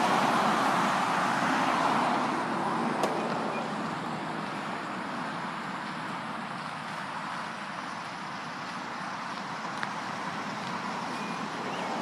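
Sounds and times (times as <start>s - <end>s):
cars passing on highway: 0.0s - 12.0s.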